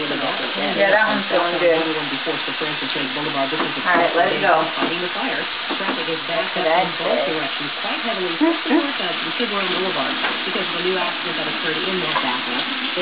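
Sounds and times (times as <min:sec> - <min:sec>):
chicken frying in hot oil: 0:00.0 - 0:13.0
indistinct voices: 0:00.0 - 0:13.0.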